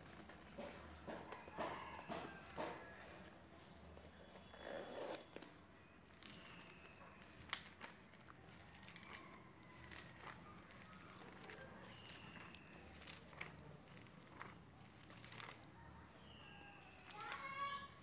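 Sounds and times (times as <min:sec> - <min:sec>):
plastic pages rustling: 0:00.0 - 0:03.4, 0:05.4 - 0:17.8.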